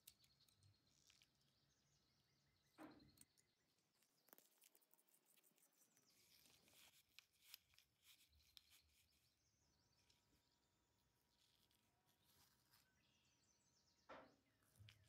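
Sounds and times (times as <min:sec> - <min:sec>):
faint small clicks and ticks: 0:00.0 - 0:13.0, 0:14.1 - 0:15.0.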